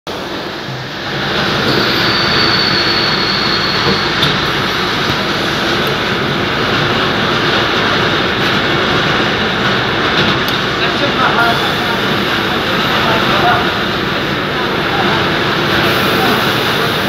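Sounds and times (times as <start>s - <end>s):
factory machinery running: 0.1s - 17.0s.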